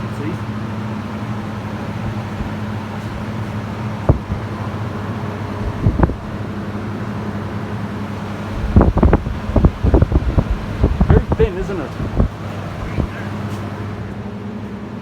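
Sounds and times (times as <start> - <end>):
fans humming: 0.0 - 15.0
air blast buffeting microphone: 1.9 - 14.6.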